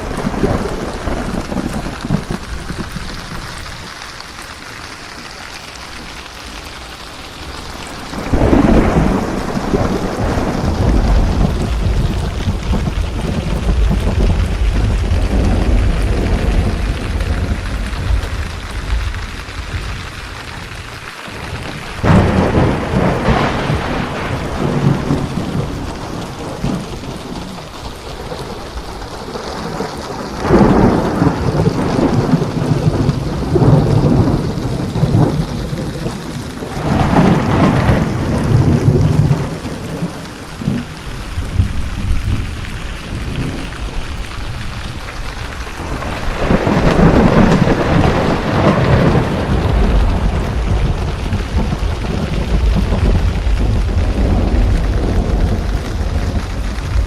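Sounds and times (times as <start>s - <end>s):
heavy rain: 0.0s - 57.0s
rolling thunder: 0.0s - 57.0s.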